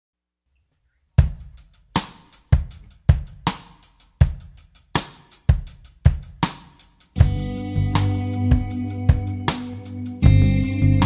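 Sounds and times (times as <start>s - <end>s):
drum beat: 1.2s - 11.0s.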